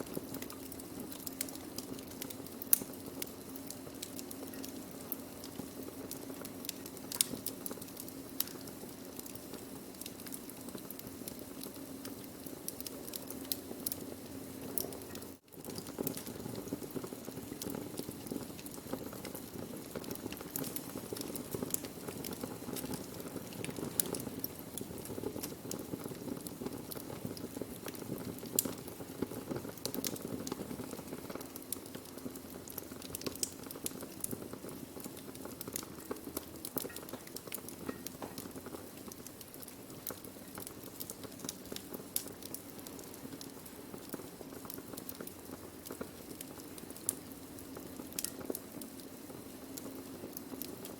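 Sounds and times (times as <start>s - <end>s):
burning wood crackling: 0.0s - 50.9s.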